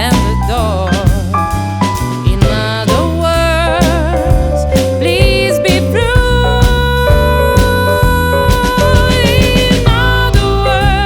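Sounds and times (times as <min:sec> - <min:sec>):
person singing with vibrato: 0:00.0 - 0:01.5, 0:02.3 - 0:11.0
jazz band playing swing ballad: 0:00.0 - 0:11.0.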